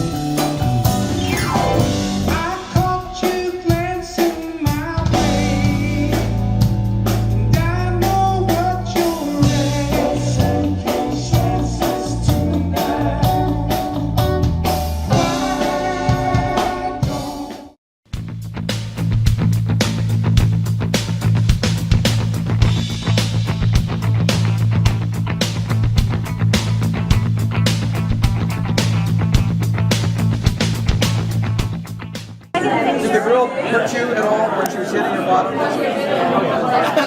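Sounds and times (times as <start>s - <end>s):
bass guitar: 0.0s - 32.5s
drum kit: 0.0s - 32.5s.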